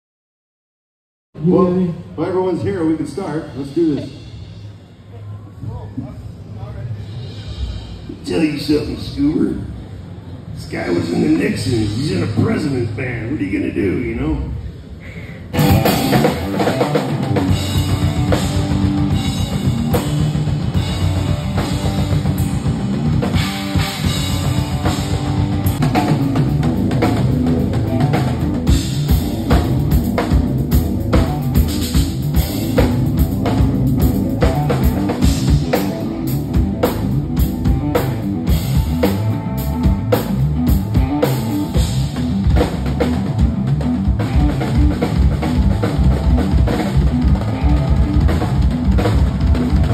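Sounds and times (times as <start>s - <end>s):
rock drum kit playing: 3.0s - 5.1s, 7.0s - 9.1s, 10.8s - 12.8s, 15.4s - 49.9s.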